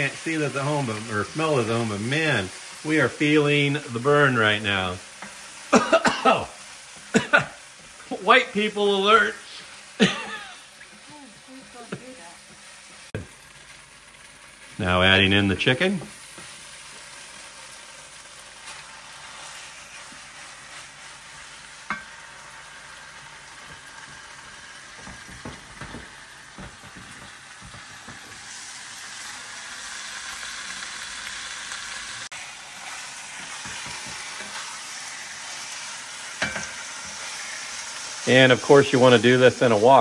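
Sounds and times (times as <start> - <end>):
chicken sizzling in a pan: 0.0 - 40.0.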